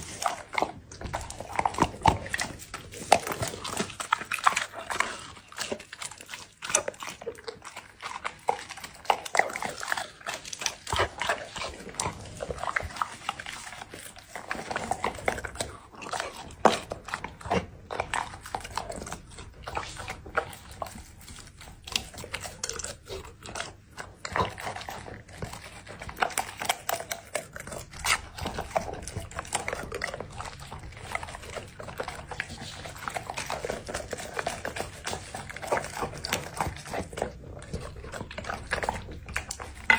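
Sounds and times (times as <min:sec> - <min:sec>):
dog chewing and crunching food: 0:00.0 - 0:39.9.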